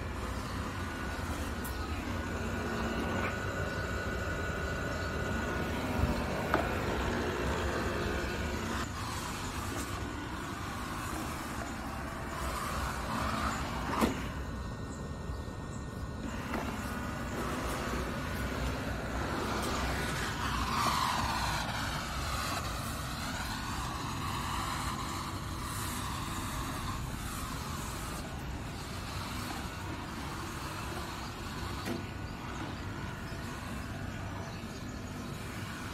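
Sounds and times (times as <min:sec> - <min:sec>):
robot vacuum whirring: 0:00.0 - 0:35.9.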